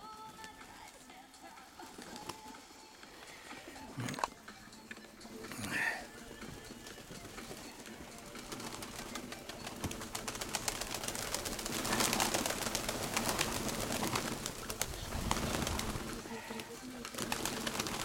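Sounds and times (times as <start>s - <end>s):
pigeons cooing: 1.6s - 18.0s.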